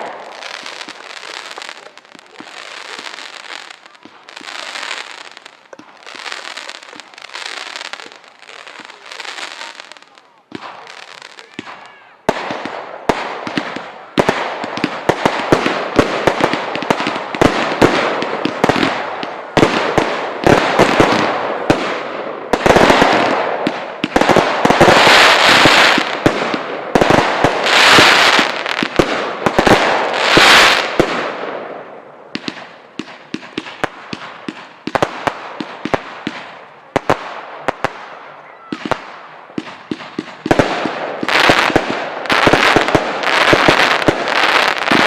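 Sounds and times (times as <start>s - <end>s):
fireworks bursts and bangs: 0.0s - 45.0s
fireworks crackling: 0.0s - 45.0s.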